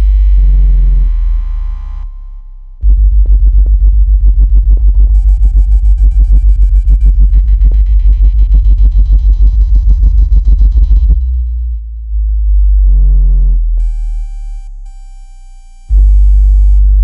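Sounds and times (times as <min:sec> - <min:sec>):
deep bass pulsing: 0:00.0 - 0:17.0.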